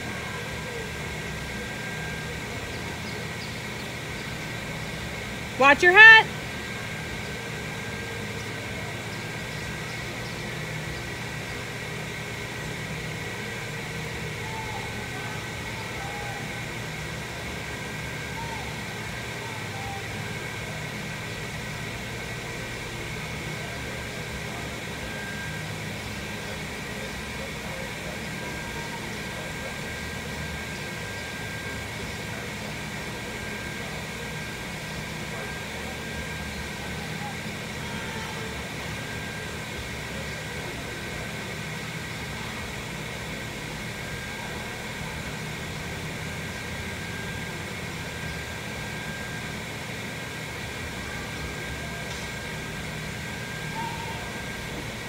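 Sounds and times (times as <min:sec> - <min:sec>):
faint constant whine: 0:00.0 - 0:55.0
machinery hum and hiss: 0:00.0 - 0:55.0.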